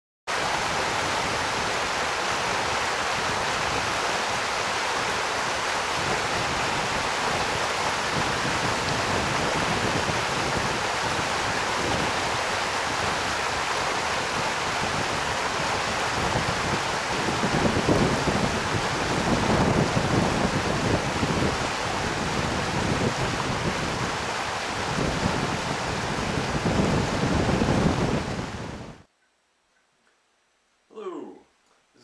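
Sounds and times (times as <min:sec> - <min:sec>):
stream rushing over rocks: 0:00.3 - 0:29.1.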